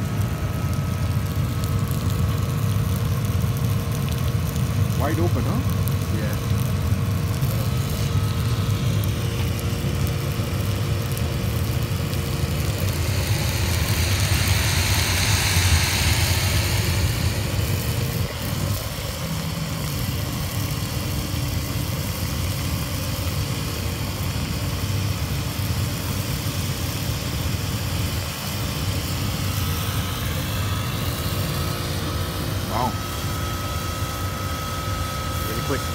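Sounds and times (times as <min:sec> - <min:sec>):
engine and pump droning: 0:00.0 - 0:35.9
hot water and steam spraying: 0:00.0 - 0:35.9.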